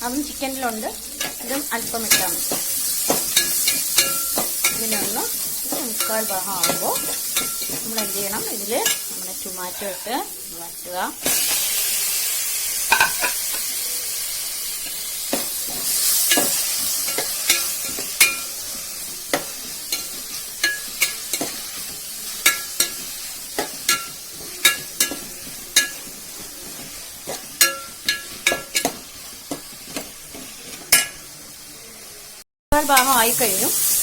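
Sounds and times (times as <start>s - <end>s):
onions sizzling in oil: 0.0s - 34.0s
metal spoon scraping a pan: 0.6s - 10.5s, 11.2s - 12.2s, 12.8s - 13.8s, 14.8s - 31.3s.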